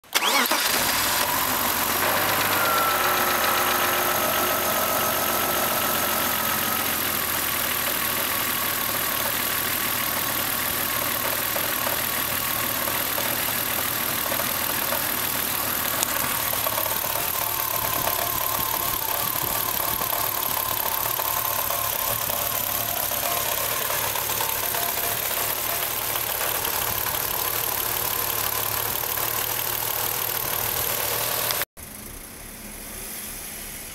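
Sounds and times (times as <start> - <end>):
car engine idling roughly: 0.2 - 32.4.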